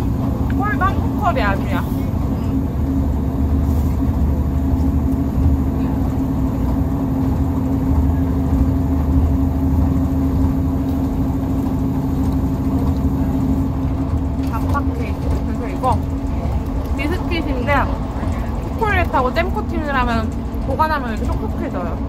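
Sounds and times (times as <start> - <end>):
diesel train rumbling inside carriage: 0.0 - 22.0.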